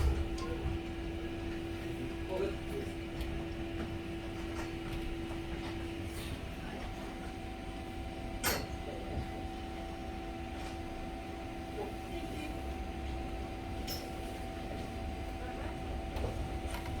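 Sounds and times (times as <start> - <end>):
tram rumbling: 0.0 - 17.0.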